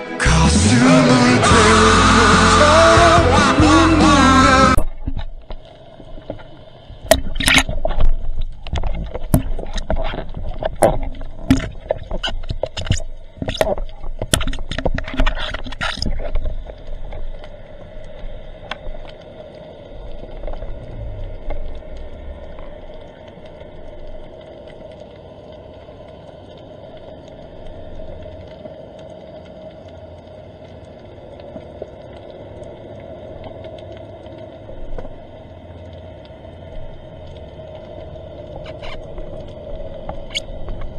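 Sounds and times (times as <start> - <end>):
low underwater rumble: 0.0 - 40.9
underwater water rushes: 0.0 - 40.9
sharp underwater clicks: 4.8 - 19.3, 20.2 - 40.9.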